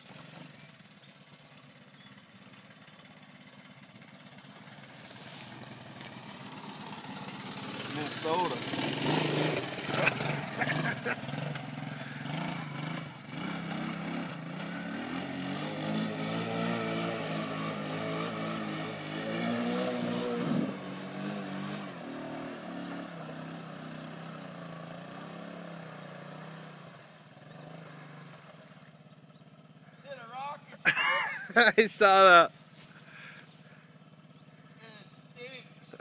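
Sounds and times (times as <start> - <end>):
three-wheeler engine revving: 0.0 - 36.0.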